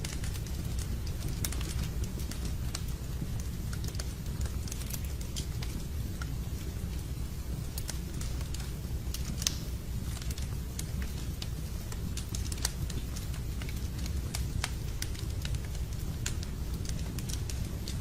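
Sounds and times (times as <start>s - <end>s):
logs burning in fireplace: 0.0s - 18.0s.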